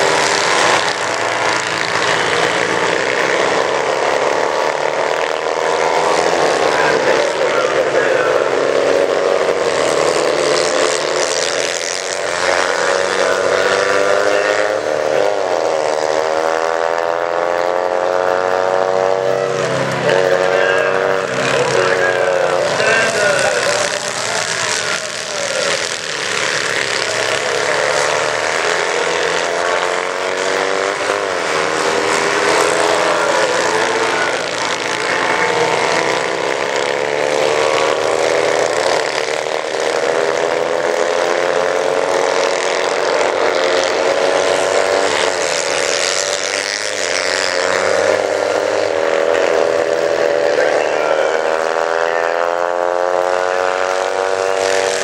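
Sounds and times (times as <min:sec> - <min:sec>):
kart engines revving: 0:00.0 - 0:55.0.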